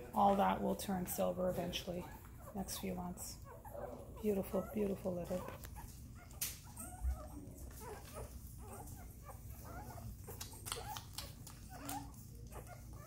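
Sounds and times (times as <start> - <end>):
puppies squeaking and whimpering: 0.1 - 13.0.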